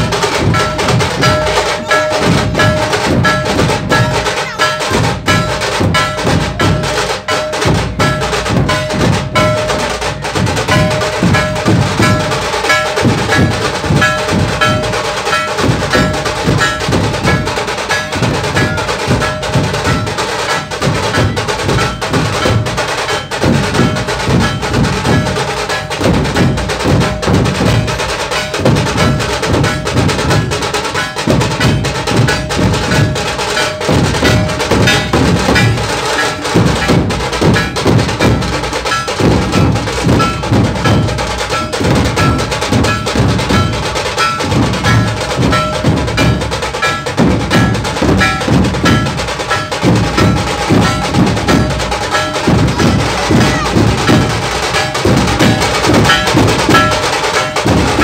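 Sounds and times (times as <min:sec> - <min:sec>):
barrel drums beaten with sticks: 0:00.0 - 0:58.0.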